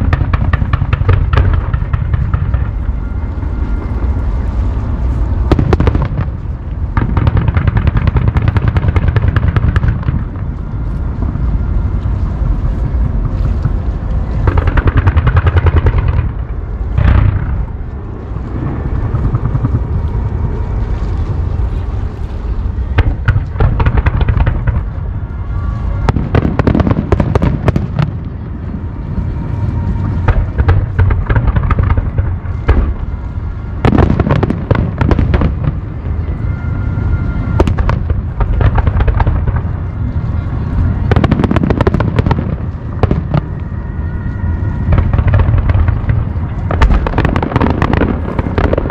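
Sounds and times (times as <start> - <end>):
fireworks booming: 0.0 - 48.9
fireworks crackling: 0.0 - 48.9.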